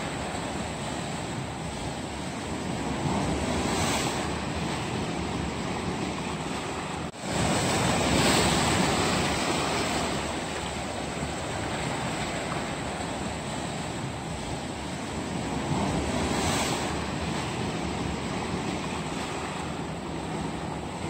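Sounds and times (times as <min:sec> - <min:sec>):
sea waves breaking over rocks: 0:00.0 - 0:21.0.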